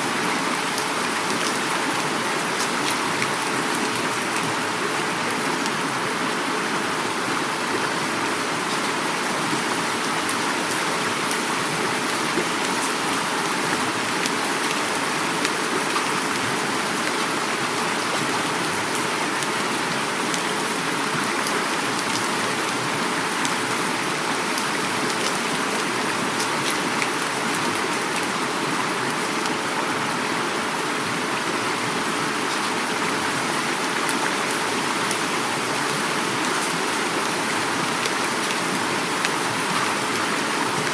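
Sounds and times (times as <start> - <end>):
flowing river water: 0.0 - 40.9
heavy rain falling: 0.0 - 40.9.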